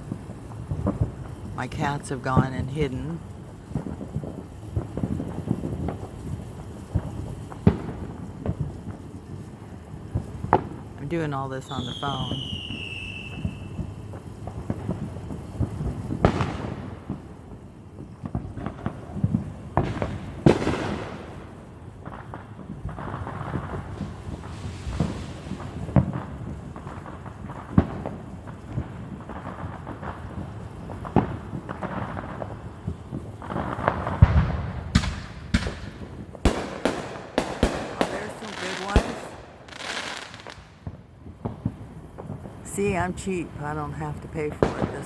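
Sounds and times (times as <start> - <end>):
fireworks popping and booming: 0.0 - 45.0
sharp firework cracks: 3.3 - 11.0, 12.2 - 42.9.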